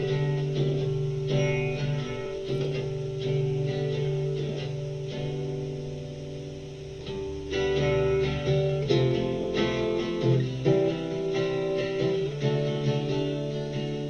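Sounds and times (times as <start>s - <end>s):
strummed guitar chords: 0.0s - 14.0s.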